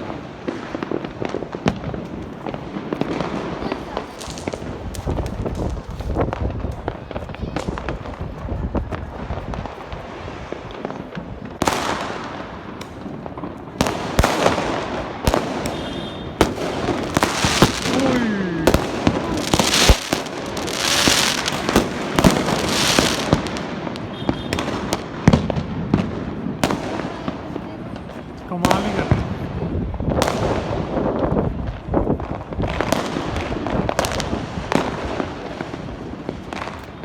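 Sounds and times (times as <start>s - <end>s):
fireworks bangs: 0.0s - 37.0s
fireworks crackling hiss: 0.0s - 37.0s.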